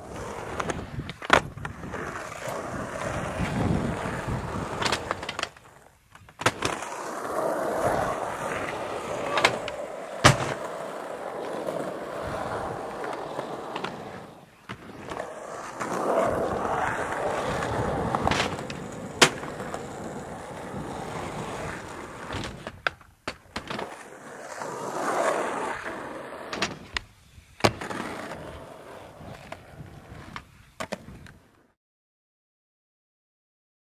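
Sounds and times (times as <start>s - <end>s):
skateboard clacking on ground: 0.0s - 31.4s
skateboard wheels rolling on concrete: 0.0s - 31.8s.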